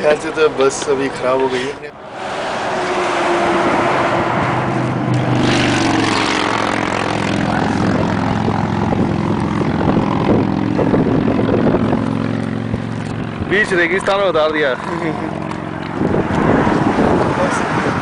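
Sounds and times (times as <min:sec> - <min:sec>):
large engine droning: 0:00.2 - 0:18.0.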